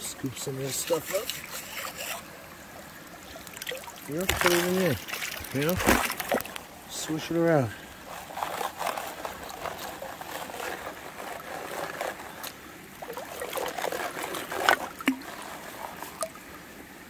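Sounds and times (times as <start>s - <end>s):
water and gravel sloshing in pan: 0.0s - 16.5s
trickling creek: 0.0s - 17.0s.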